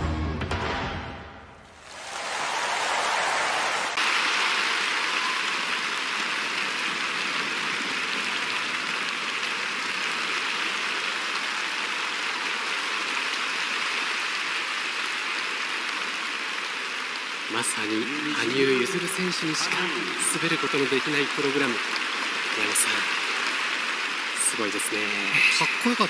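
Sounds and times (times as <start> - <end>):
audience applauding: 1.6 - 26.0.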